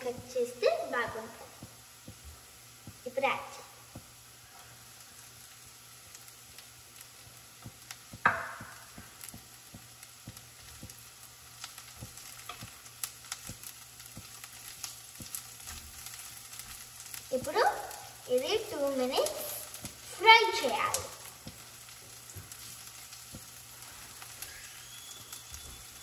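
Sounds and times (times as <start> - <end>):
loud sizzling burst: 0.0 - 26.0
vegetables sizzling in oil: 0.0 - 26.0.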